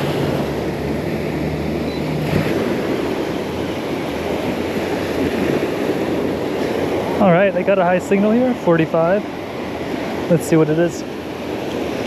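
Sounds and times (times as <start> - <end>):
waves washing on a beach: 0.0 - 12.0.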